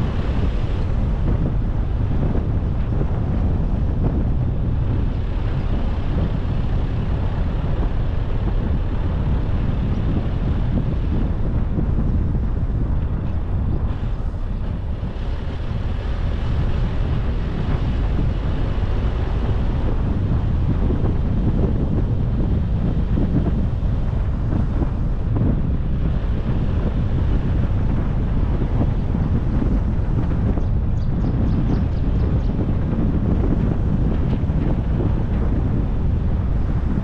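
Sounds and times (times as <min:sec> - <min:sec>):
car road and engine rumble: 0:00.0 - 0:37.0
wind buffeting microphone: 0:00.0 - 0:37.0.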